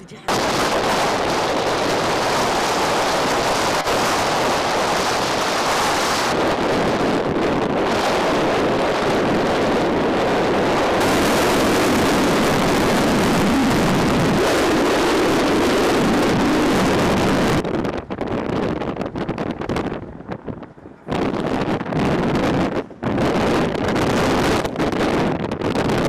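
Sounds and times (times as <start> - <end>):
wind and road noise in car: 0.0 - 26.0
wind fluttering on microphone: 0.3 - 26.0.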